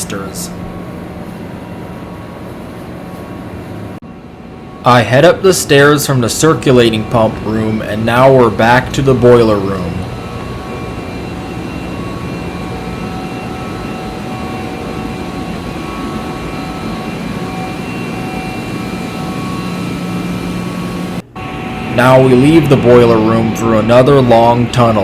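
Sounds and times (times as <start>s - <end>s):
boiler and blower humming: 0.0s - 25.0s
faint steady tones: 0.0s - 25.0s.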